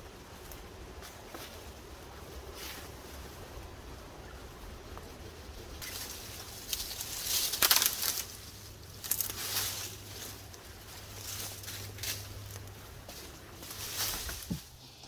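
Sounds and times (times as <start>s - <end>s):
leaves and twigs rustling: 0.0s - 15.0s.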